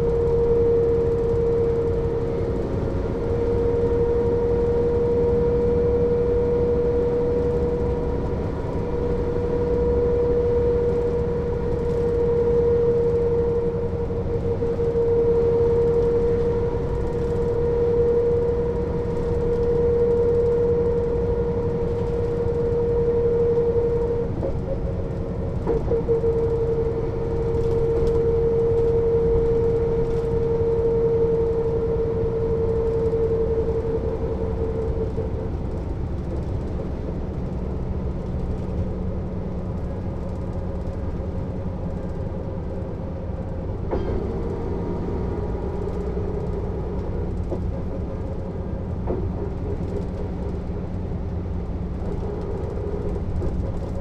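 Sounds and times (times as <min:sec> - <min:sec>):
bus diesel rumble and whine: 0:00.0 - 0:54.0.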